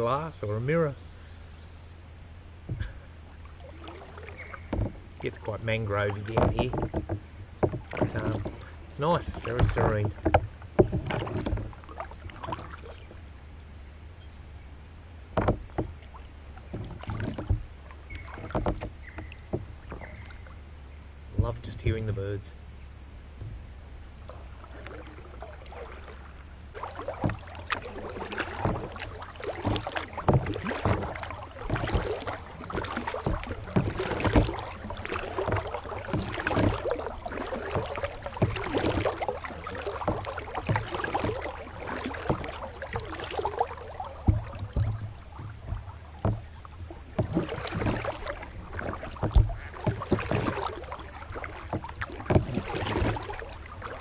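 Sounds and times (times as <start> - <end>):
low steady hum: 0.0 - 54.0
water trickling off paddle: 0.0 - 54.0
paddle splashing in water: 2.3 - 54.0.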